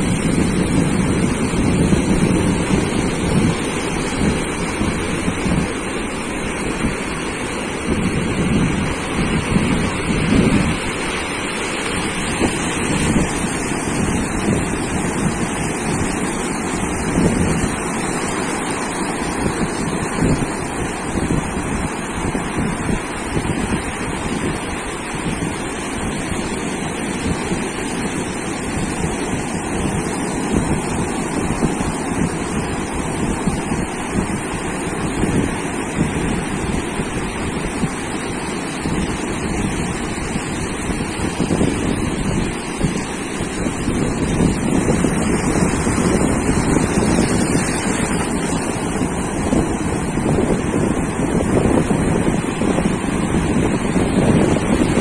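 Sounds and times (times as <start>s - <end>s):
sea surf washing onto beach: 0.0s - 55.0s
wind buffeting microphone: 0.0s - 55.0s.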